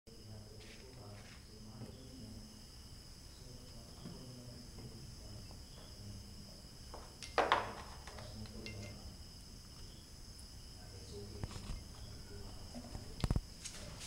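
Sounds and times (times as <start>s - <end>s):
crickets chirping: 0.1s - 14.0s.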